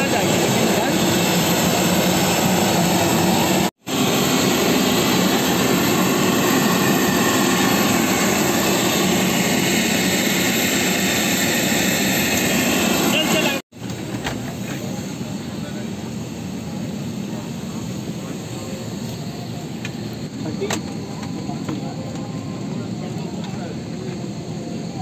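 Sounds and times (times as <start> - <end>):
jet aircraft engine noise: 0.0 - 25.0.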